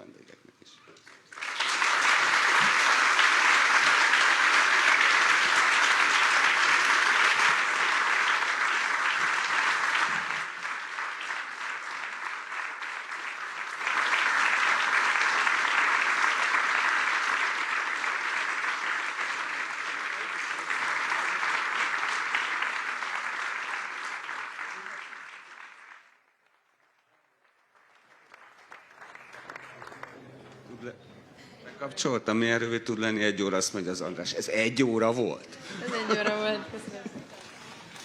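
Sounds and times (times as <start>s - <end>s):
audience applauding: 0.8s - 31.4s, 35.6s - 38.0s.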